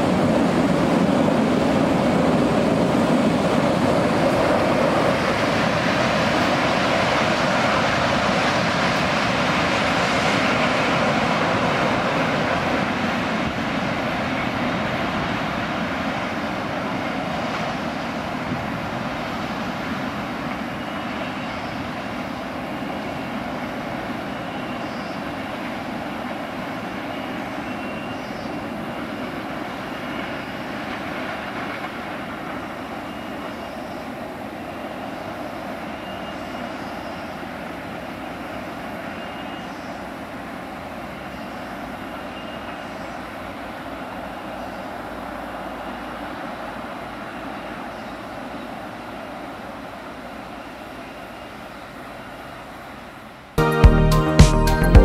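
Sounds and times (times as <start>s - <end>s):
freight train rolling on track: 0.0s - 55.0s.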